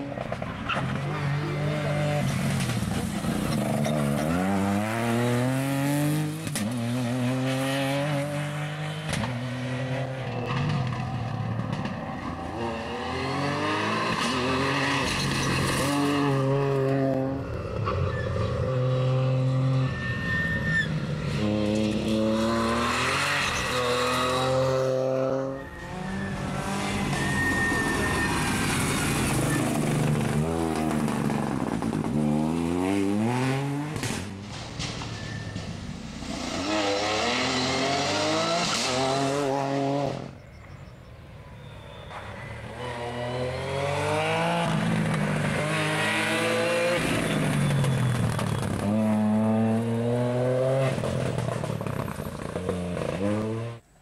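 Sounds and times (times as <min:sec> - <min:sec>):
rally car engine revving: 0:00.0 - 0:20.0, 0:21.2 - 0:34.5, 0:36.2 - 0:40.4, 0:42.8 - 0:53.9.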